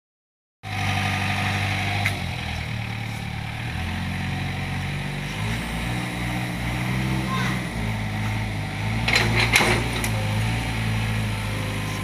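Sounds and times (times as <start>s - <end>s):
excavator diesel engine running: 0.7s - 12.0s.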